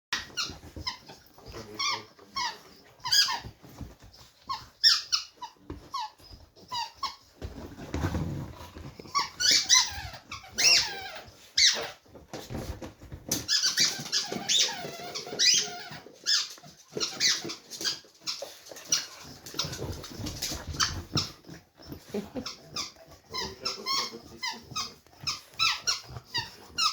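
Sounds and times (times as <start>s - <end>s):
squeaky toy squeaks: 0.2s - 7.6s, 9.1s - 12.0s, 13.4s - 26.9s.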